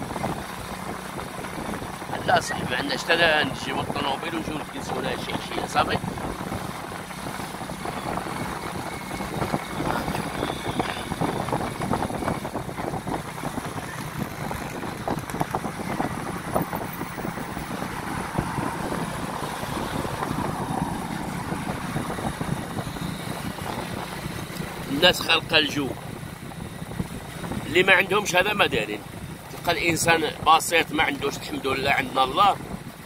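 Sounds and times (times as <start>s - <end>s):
car engine and tyre noise: 0.0s - 33.0s
small crackles and buffets: 0.0s - 33.0s.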